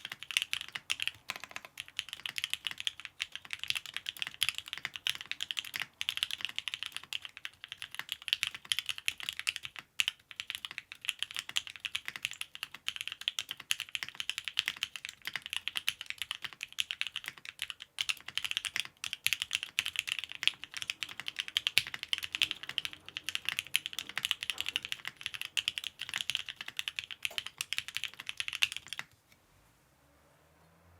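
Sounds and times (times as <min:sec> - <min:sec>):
mechanical keyboard typing: 0:00.0 - 0:29.1.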